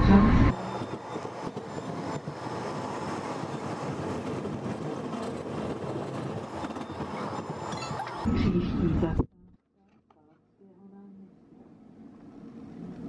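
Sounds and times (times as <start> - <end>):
tram running rumble: 0.0 - 9.4, 11.1 - 13.0.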